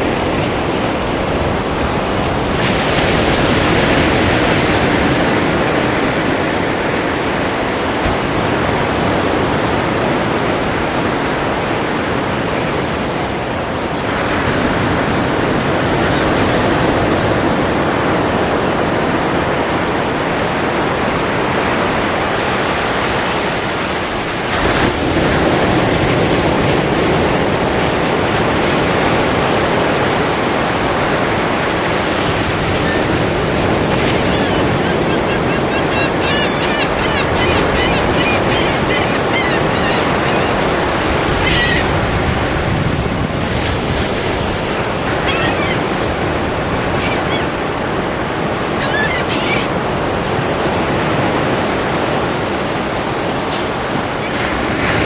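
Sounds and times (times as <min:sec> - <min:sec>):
ocean surf breaking waves: 0:00.0 - 0:55.0.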